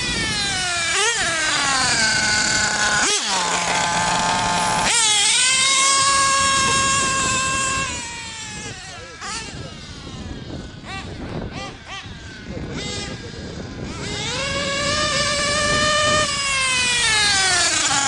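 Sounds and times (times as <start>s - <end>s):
model nitro engine whining: 0.0s - 18.0s.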